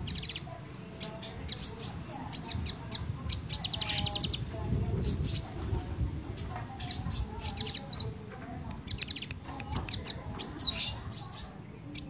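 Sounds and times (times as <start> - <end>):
songbird chirping and trilling: 0.0 - 12.0.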